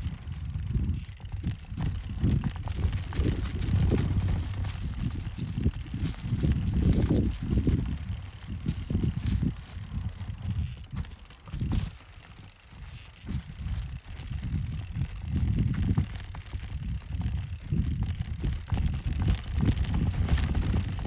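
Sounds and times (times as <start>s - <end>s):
bike clicks and rattles: 0.0s - 21.0s
rumble of tyres and wind: 0.0s - 21.0s.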